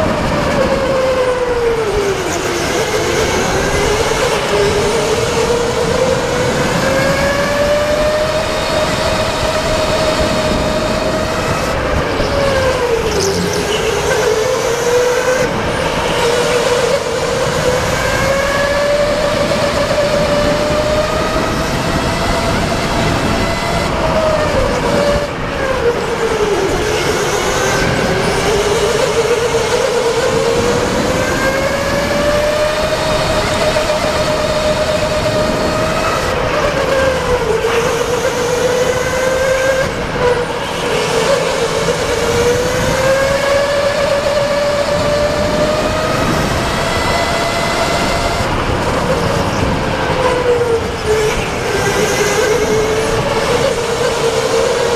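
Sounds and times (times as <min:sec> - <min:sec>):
go-kart motor whining: 0:00.0 - 0:54.9
steady rushing noise: 0:00.0 - 0:54.9.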